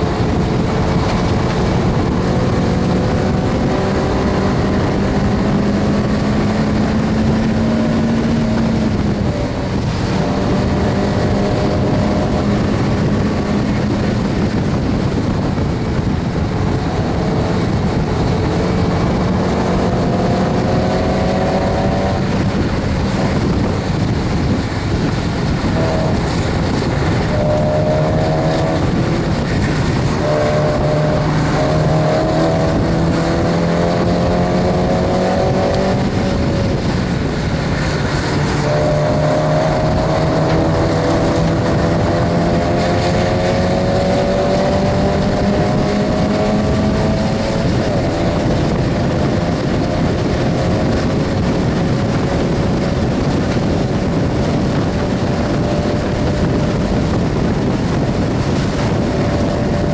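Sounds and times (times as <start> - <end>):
car engine revving: 0.0 - 59.9
steady rushing noise: 0.0 - 59.9.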